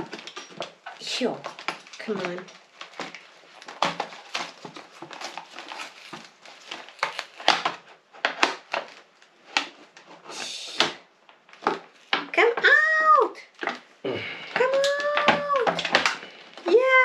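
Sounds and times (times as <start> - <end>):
plastic packaging crinkling: 0.0 - 14.0, 14.6 - 17.0.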